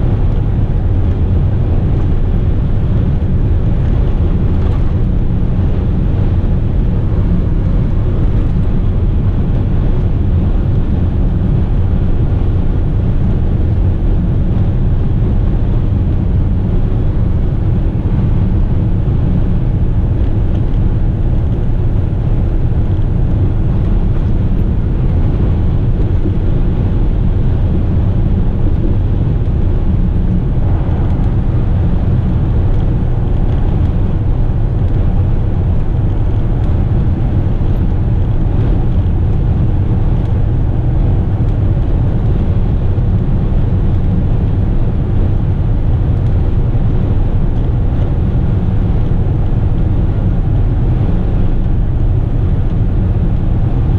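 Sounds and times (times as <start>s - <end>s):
truck engine and road drone: 0.0s - 53.9s.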